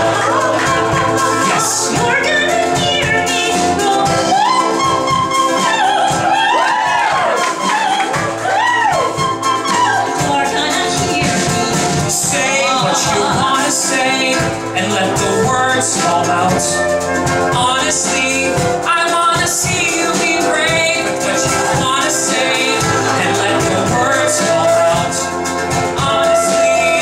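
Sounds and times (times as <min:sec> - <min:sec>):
flute: 0:00.0 - 0:13.0, 0:15.4 - 0:18.7, 0:20.2 - 0:27.0
drums: 0:00.0 - 0:27.0
ukulele: 0:00.0 - 0:27.0.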